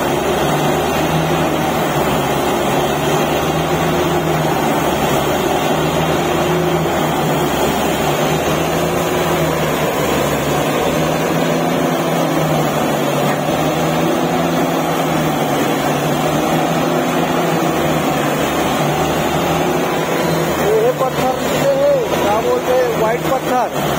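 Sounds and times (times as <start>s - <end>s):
air blowing out muddy water: 0.0s - 23.9s
drilling rig engine drone: 0.0s - 23.9s.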